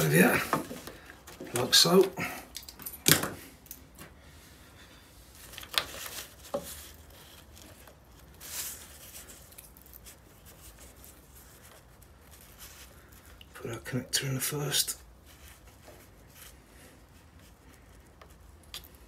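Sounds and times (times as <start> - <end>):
plastic rustling: 0.0 - 14.0, 14.9 - 19.0.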